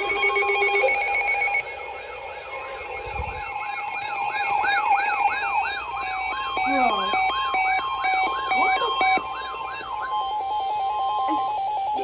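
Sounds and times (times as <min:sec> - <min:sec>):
steady alert tones: 0:00.0 - 0:11.4
fast beeping tone: 0:00.0 - 0:12.0
warbling siren-like alarm: 0:00.0 - 0:12.0.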